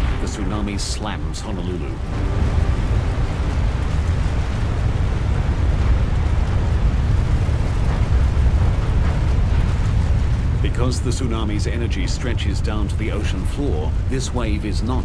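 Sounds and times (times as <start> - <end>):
churning water hiss: 0.0 - 15.0
deep rumble of flood water: 0.0 - 15.0.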